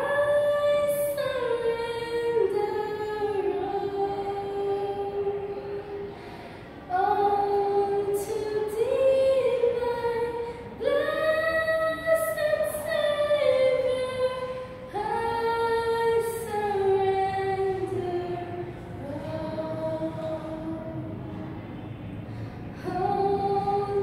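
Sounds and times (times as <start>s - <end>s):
girl singing: 0.0s - 21.5s, 22.7s - 24.0s.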